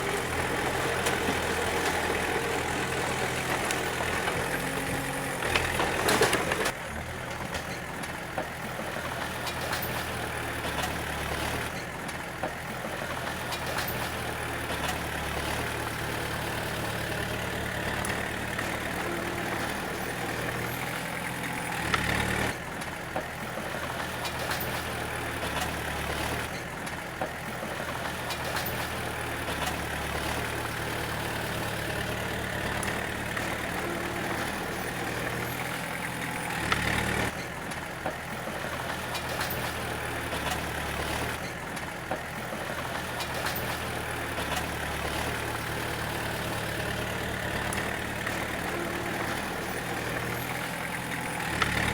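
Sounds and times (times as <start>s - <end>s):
bulldozer diesel engine running: 0.0s - 51.9s.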